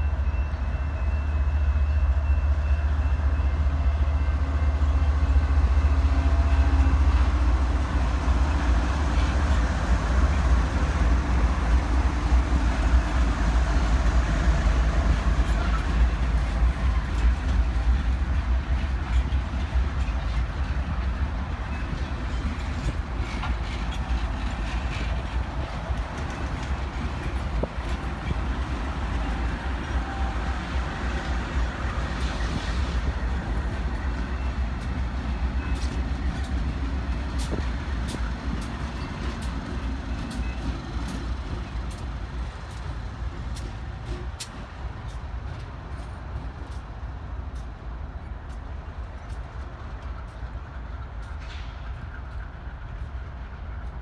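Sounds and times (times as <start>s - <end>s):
train rumbling: 0.0s - 54.0s
wheels clicking on rails: 7.9s - 54.0s.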